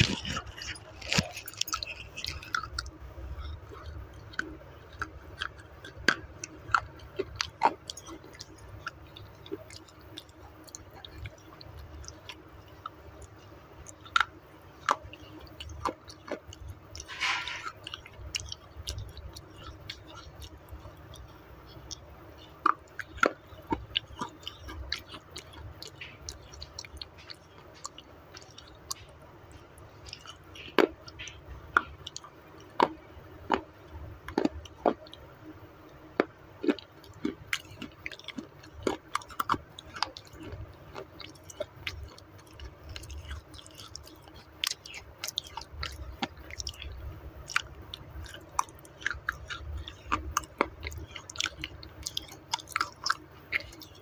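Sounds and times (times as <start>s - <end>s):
chewing and crunching clay: 0.0s - 54.0s.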